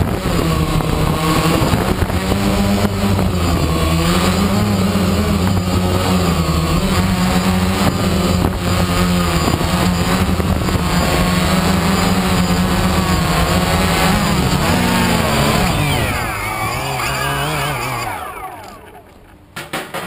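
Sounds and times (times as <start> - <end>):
drone propellers whirring: 0.0 - 19.6.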